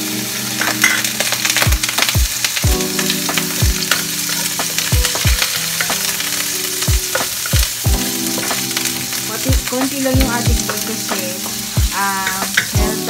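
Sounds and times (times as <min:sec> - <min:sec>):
pork sizzling in hot oil: 0:00.0 - 0:13.0
quiet background music: 0:00.0 - 0:13.0.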